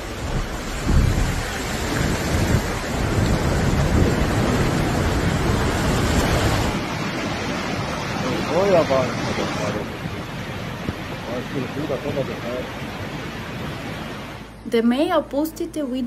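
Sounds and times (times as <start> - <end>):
river rushing: 0.0 - 14.6
wind rumble on microphone: 0.0 - 14.6.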